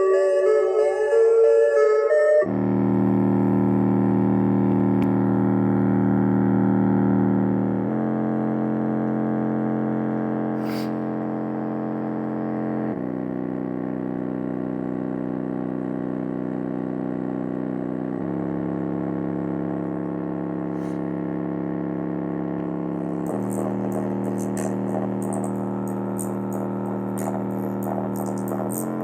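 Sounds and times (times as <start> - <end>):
buzzy bass synth music: 2.4 - 29.0.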